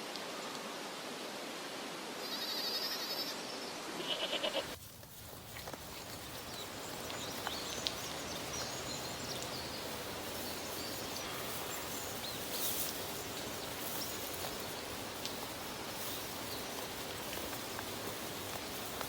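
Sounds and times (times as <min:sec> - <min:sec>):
rustling hiss: 0:00.0 - 0:19.0.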